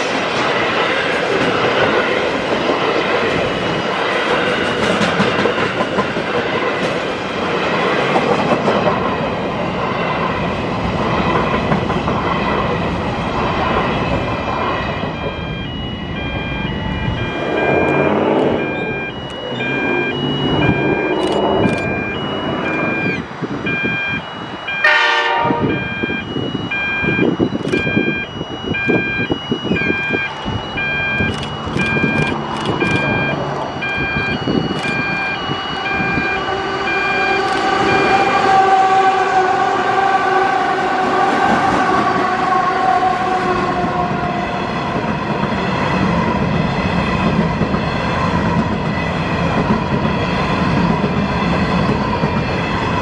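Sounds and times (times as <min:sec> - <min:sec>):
level crossing warning bells: 0:00.0 - 0:07.4, 0:09.6 - 0:45.9, 0:46.6 - 0:53.0
train wagons rolling past: 0:00.0 - 0:23.7, 0:29.3 - 0:53.0
diesel train engine: 0:00.0 - 0:53.0.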